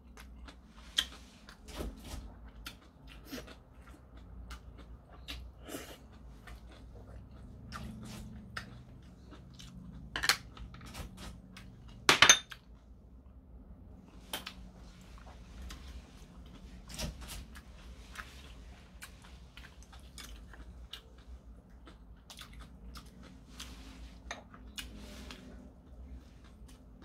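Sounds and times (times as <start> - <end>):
chewing noodles: 0.0 - 12.0, 13.9 - 27.0.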